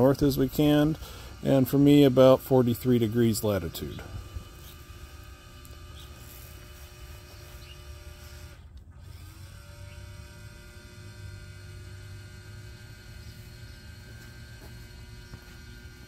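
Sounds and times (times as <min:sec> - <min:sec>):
telescope mount motors whining: 0:00.0 - 0:16.0.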